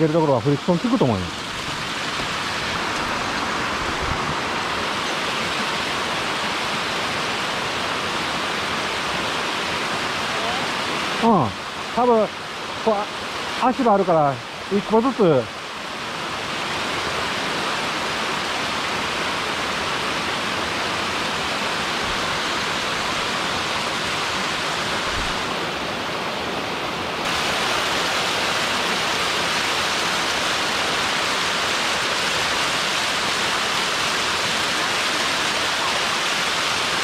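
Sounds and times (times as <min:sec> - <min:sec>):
waterfall rushing over rock: 0:00.0 - 0:37.0.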